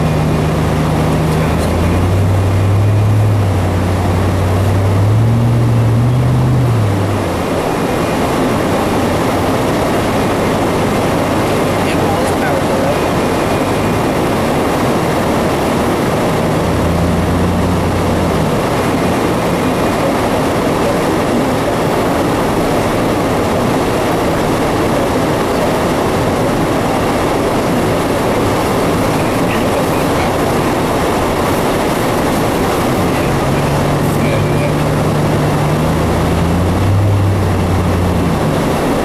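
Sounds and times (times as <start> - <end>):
low engine hum: 0.0 - 39.0
tyre road noise: 0.0 - 39.0.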